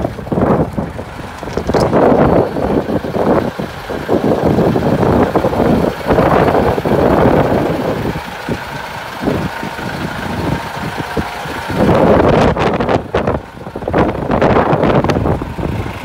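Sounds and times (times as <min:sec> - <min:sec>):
diesel truck engine idling: 0:00.0 - 0:16.0
wind buffeting microphone: 0:00.0 - 0:16.0.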